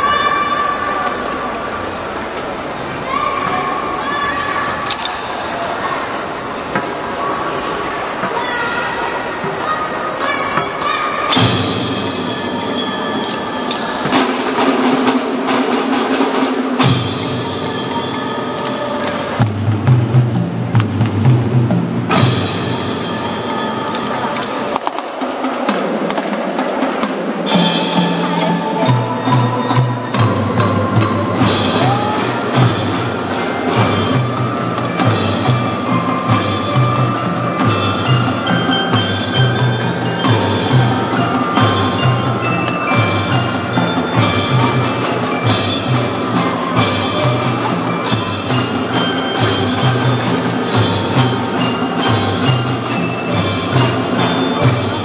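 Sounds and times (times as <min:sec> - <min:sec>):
drum strokes: 0:10.6 - 0:55.0
marimbas and xylophones: 0:10.6 - 0:55.0.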